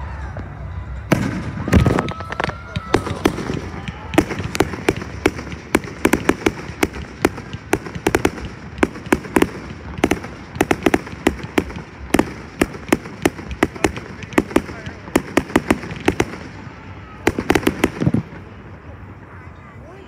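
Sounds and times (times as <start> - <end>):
fireworks bursting: 0.2 - 19.2.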